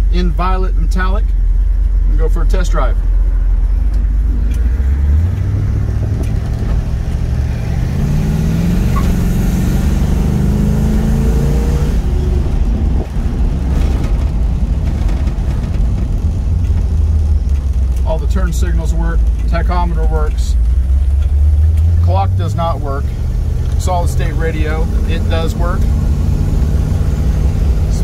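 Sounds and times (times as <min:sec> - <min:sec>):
car engine deep rumble: 0:00.0 - 0:28.0.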